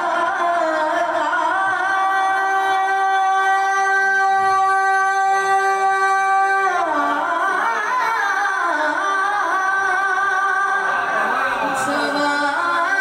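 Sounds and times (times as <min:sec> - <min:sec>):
boy singing through a microphone: 0:00.0 - 0:13.0.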